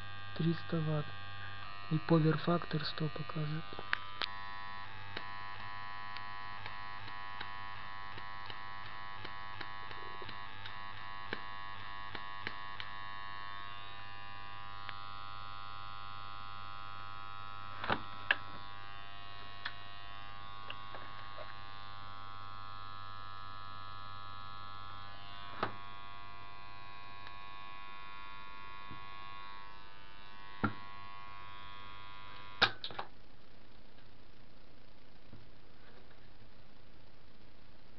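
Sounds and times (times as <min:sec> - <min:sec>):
transformer high buzzing tones: 0:00.0 - 0:32.7.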